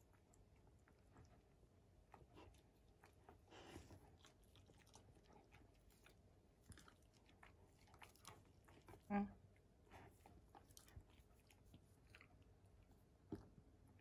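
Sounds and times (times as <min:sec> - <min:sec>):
dog licking and chewing: 0:00.0 - 0:14.0.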